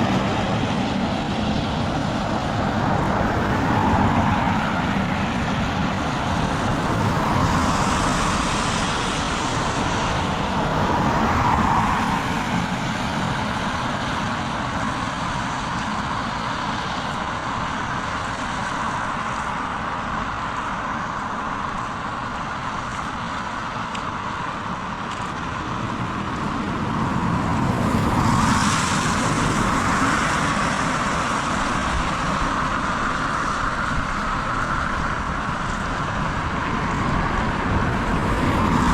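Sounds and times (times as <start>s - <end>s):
vehicles passing on wet road: 0.0s - 38.9s.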